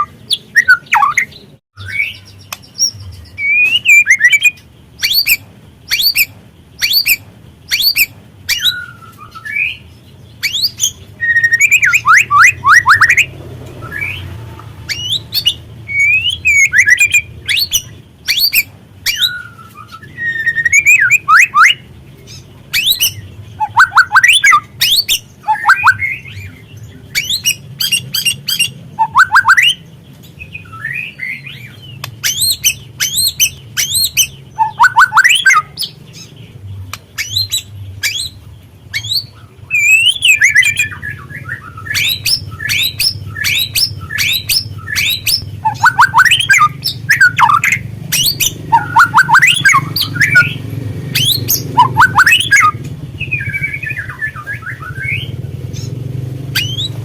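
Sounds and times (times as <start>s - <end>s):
bird whistled notes: 0.0s - 9.8s, 10.4s - 14.3s, 14.9s - 21.9s, 22.7s - 29.8s, 30.5s - 36.0s, 37.2s - 55.4s, 56.5s - 57.0s.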